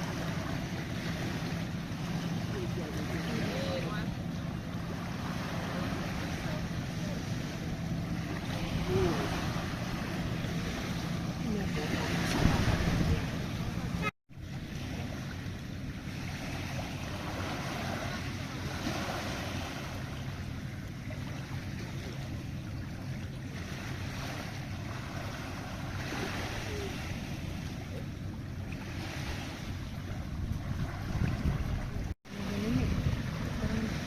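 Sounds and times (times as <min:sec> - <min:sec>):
low engine-like hum: 0:00.0 - 0:34.0
water on open sea: 0:00.0 - 0:34.0
wind: 0:00.0 - 0:34.0.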